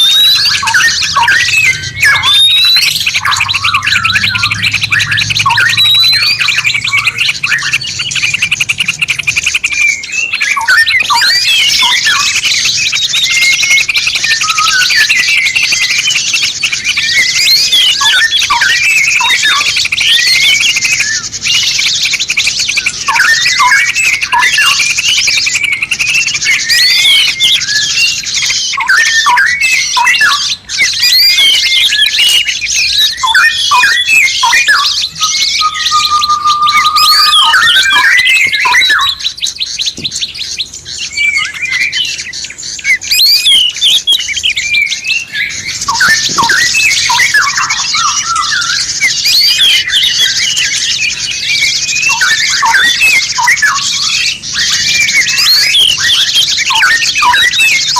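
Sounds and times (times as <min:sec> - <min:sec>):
held whistle: 0:00.0 - 0:16.3, 0:22.8 - 0:39.4, 0:42.8 - 0:57.9
songbirds chirping and trilling: 0:00.0 - 0:57.9.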